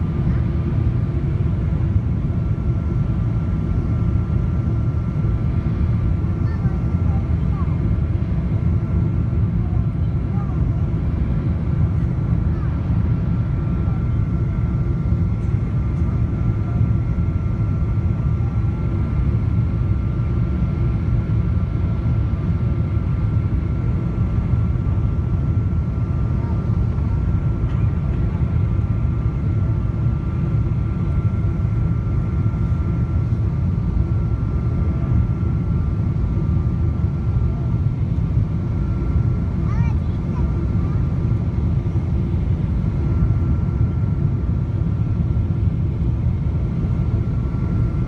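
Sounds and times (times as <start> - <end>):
airplane cabin rumble: 0.0 - 48.0.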